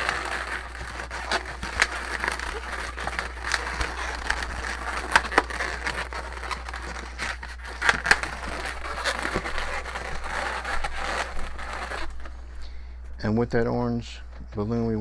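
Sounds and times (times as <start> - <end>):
balloons rubbing and squeaking: 0.0 - 12.8.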